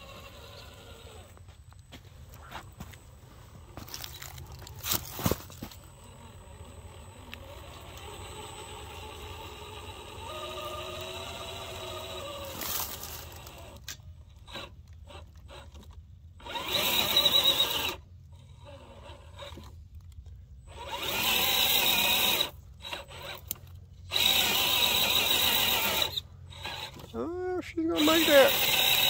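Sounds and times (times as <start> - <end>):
electric motor and gearbox whining: 0.0 - 29.0.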